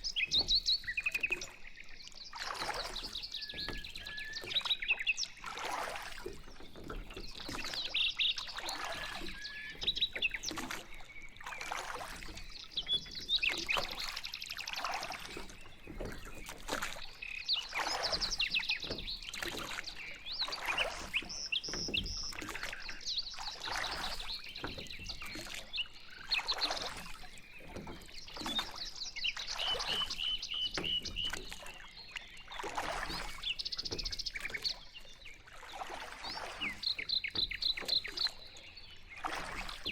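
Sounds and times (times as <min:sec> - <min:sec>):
paddles splashing water: 0:00.0 - 0:39.9
small birds chirping and trilling: 0:00.0 - 0:39.9.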